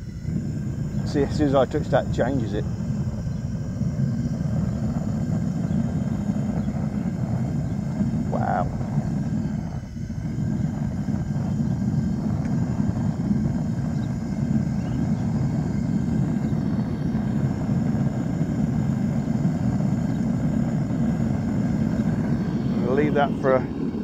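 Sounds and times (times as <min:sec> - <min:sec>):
gas burner rumbling: 0:00.0 - 0:24.0.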